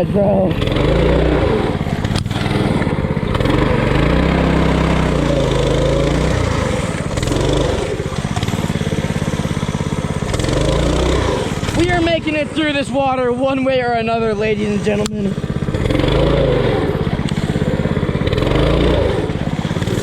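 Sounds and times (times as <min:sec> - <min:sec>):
small engine revving: 0:00.0 - 0:20.0.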